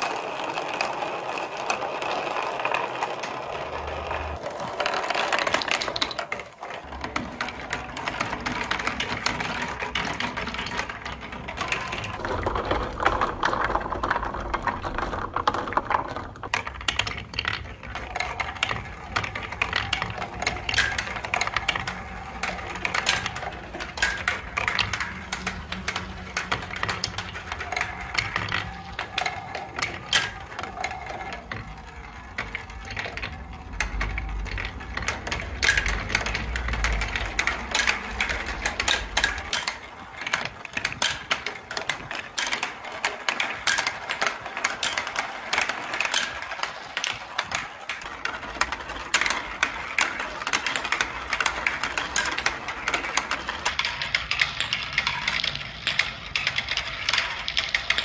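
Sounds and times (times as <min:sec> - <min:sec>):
marbles rolling and clattering: 0:00.0 - 0:58.0.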